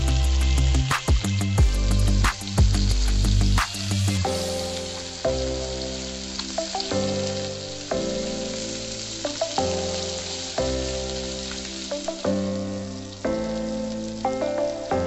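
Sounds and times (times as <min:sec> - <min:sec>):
background music of held notes: 0:00.0 - 0:15.0
fish sizzling in oil: 0:00.0 - 0:15.0.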